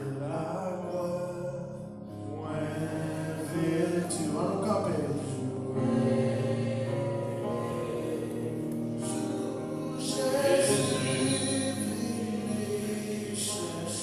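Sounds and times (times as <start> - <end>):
electronic keyboard gospel chords: 0.0 - 14.0.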